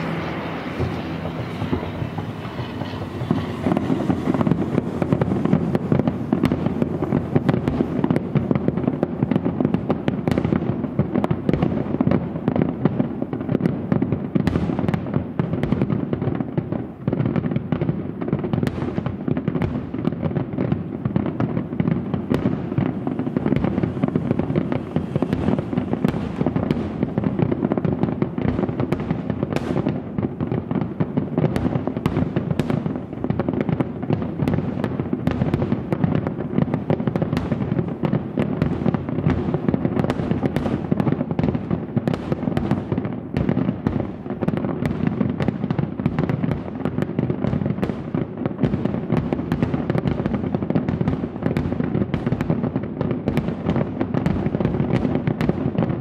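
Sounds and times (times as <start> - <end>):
fireworks rumble: 0.0 - 56.0
fireworks sharp cracks: 0.0 - 56.0.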